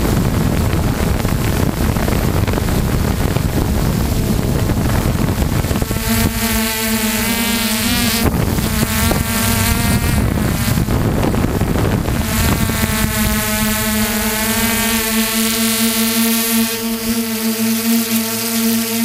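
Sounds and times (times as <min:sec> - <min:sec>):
wind rushing over microphone: 0:00.0 - 0:17.3
helicopter motor and rotor whine: 0:00.0 - 0:19.0.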